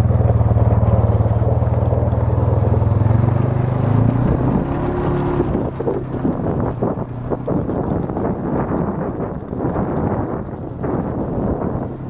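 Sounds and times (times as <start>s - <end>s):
quad engine revving: 0.0s - 12.0s.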